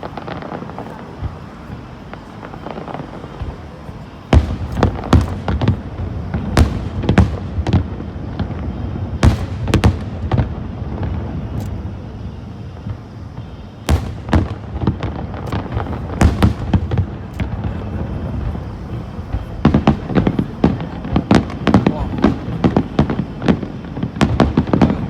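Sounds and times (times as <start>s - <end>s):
fireworks bangs with echo: 0.0s - 25.0s.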